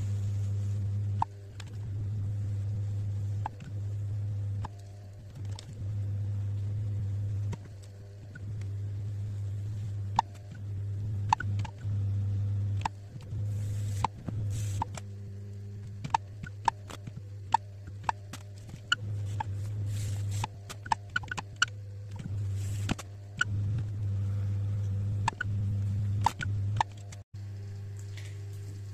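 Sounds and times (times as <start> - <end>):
potter's wheel humming: 0.0 - 28.9.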